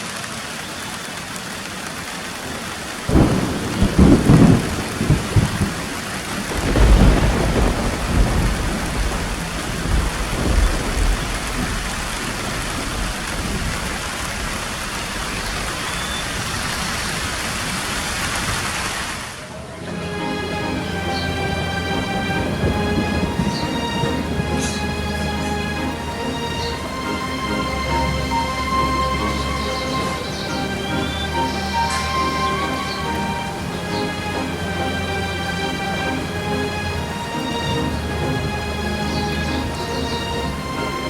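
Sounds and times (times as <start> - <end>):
heavy rain: 0.0 - 41.0
thunder rolling: 2.4 - 41.0.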